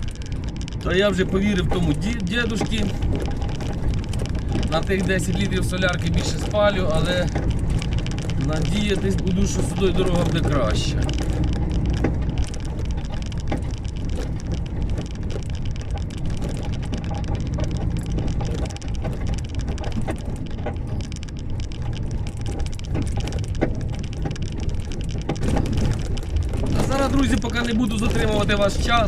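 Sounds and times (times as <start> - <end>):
knocks and rattles: 0.0 - 29.0
truck cab rumble: 0.0 - 29.0.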